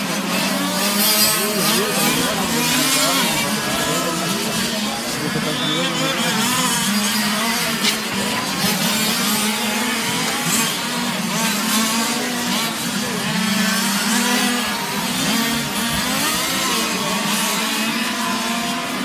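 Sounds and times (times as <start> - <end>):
rc car engines buzzing: 0.0 - 19.0.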